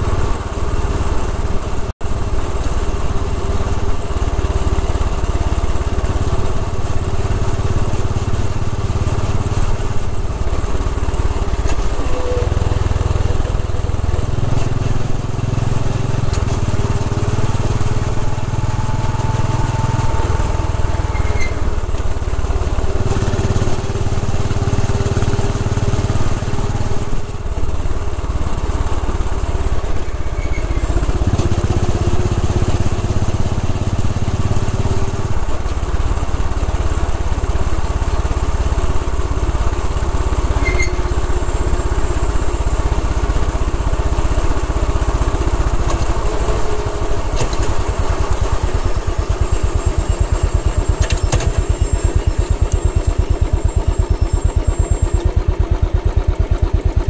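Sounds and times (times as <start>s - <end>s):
wind and road noise: 0.0s - 54.6s
motorcycle engine running: 0.0s - 57.0s.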